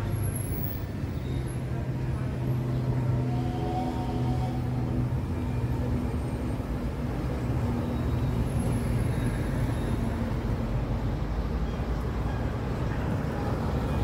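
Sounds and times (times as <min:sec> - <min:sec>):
road noise rumble: 0:00.0 - 0:14.0
vehicle engine humming: 0:00.0 - 0:14.0.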